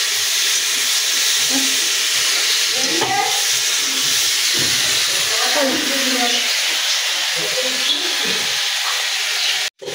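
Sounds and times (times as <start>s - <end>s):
food frying hiss in a pan: 0.0s - 9.9s.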